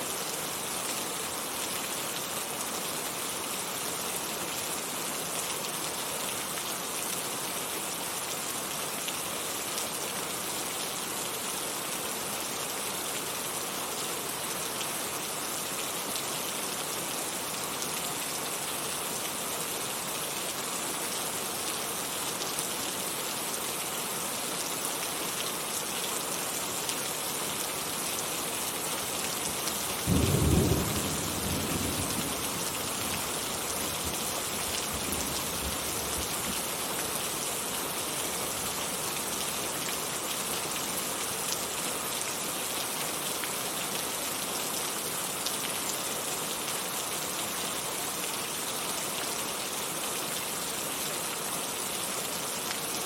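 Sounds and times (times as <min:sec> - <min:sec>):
heavy rain falling: 0:00.1 - 0:53.0.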